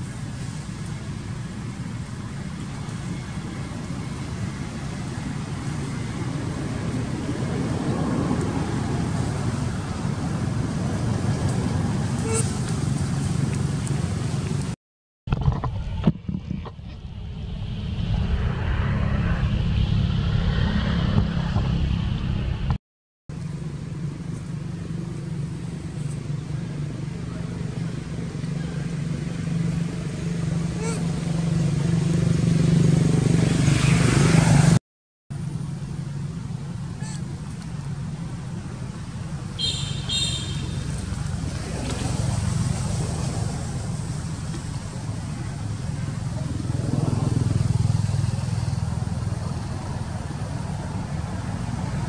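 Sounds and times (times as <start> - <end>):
vehicle engine rumbling: 0.0 - 52.0.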